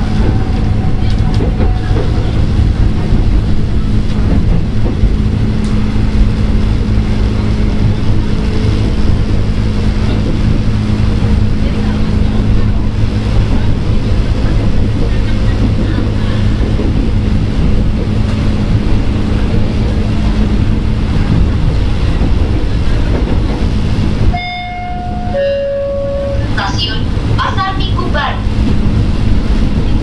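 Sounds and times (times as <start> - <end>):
train rail rumble: 0.0 - 30.0.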